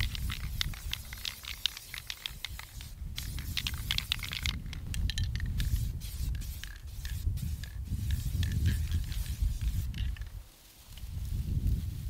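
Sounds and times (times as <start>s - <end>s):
spray paint can hissing: 0.0s - 10.4s
crackling rustles: 0.0s - 12.0s.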